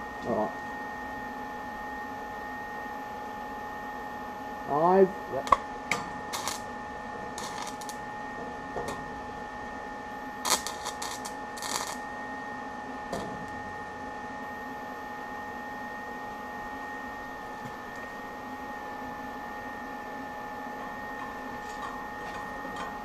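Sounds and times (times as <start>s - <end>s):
machine hum with whine: 0.0s - 23.0s.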